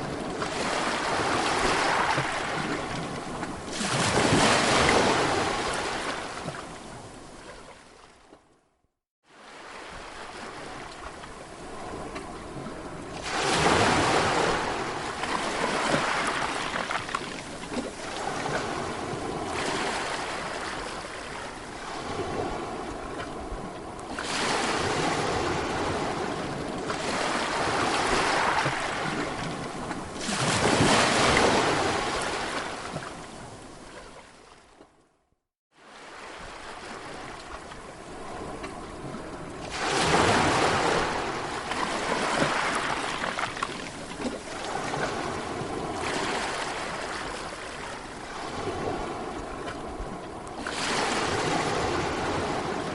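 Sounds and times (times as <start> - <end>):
sea waves breaking on shore: 0.0 - 8.5, 9.2 - 35.0, 35.7 - 52.9.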